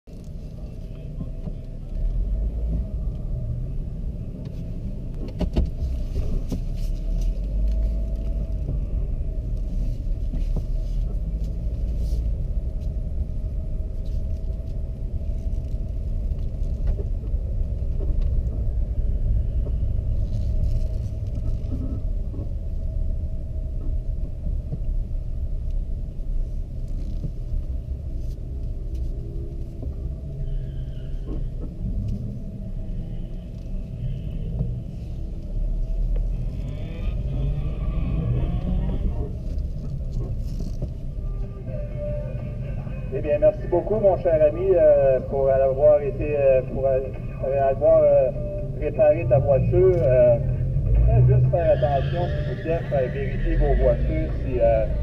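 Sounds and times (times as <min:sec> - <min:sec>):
car engine low rumble: 0:00.0 - 0:55.0.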